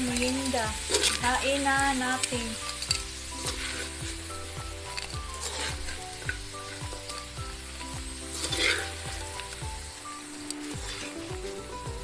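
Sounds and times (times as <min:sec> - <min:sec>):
background music with steady beat: 0:00.0 - 0:12.0
steady hiss: 0:00.0 - 0:12.0.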